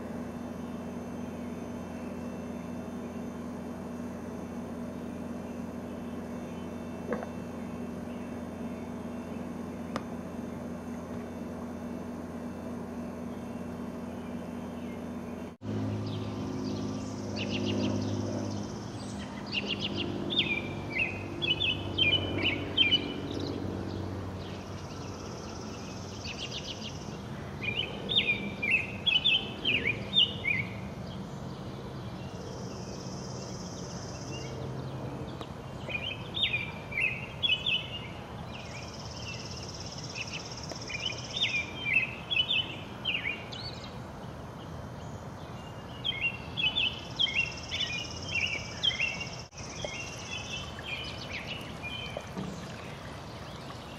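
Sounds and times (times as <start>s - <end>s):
high steady buzz: 0.0s - 45.6s
bird chirping song: 0.0s - 53.9s.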